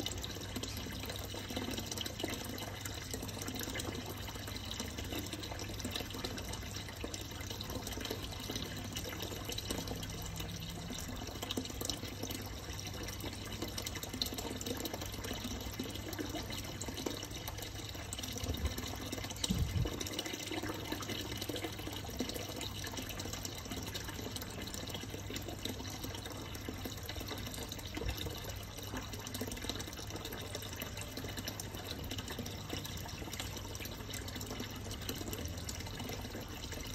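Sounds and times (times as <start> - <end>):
low steady hum: 0.0 - 36.9
trickling water: 0.0 - 36.9.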